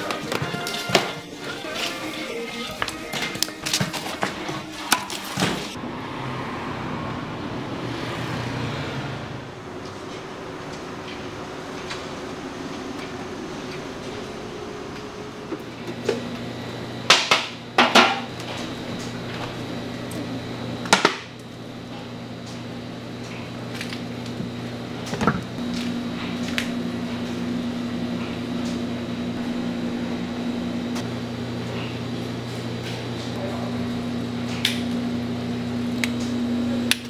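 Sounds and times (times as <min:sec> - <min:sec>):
steady machine hum: 0:00.0 - 0:07.9, 0:08.9 - 0:37.0.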